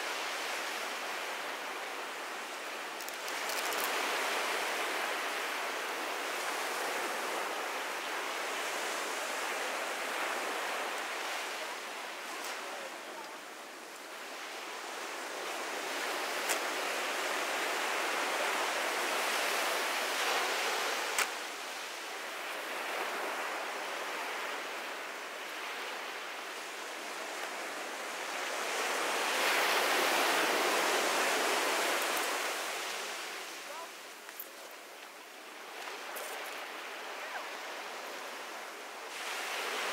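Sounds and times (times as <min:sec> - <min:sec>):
ocean surf breaking: 0:03.2 - 0:34.3, 0:35.5 - 0:39.9.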